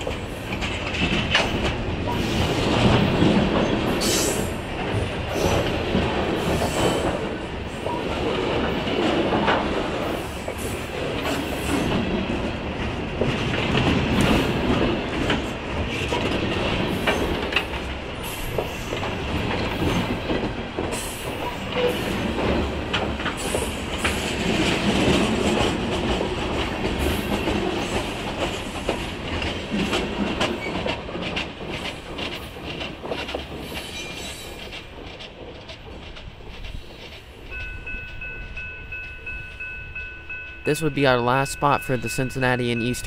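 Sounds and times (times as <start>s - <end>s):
train wheels clattering over rail joints: 0.0s - 39.8s
freight train rolling past: 0.0s - 43.0s.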